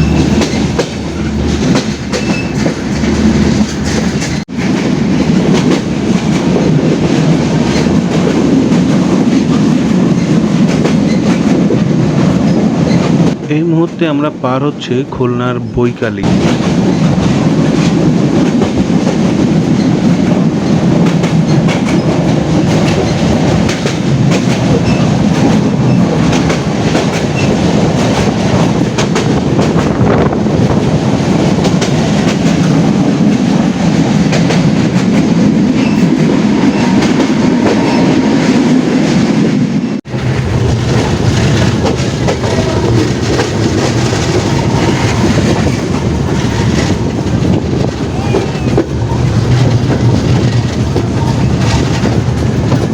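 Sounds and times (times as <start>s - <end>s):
clickety-clack over rail joints: 0.0s - 14.1s, 16.2s - 52.9s
train wheels rumbling on track: 0.0s - 52.9s.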